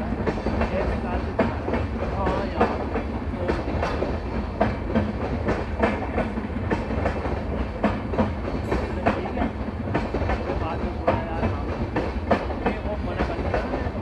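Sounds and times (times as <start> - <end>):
train rolling past: 0.0 - 14.0.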